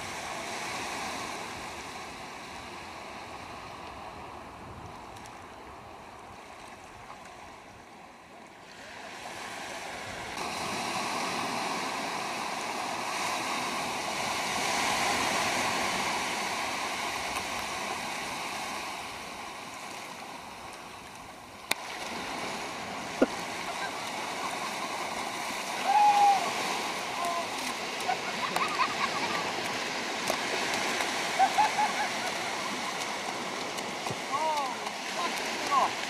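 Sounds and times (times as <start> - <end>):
small surf washing over shallows: 0.0 - 36.0.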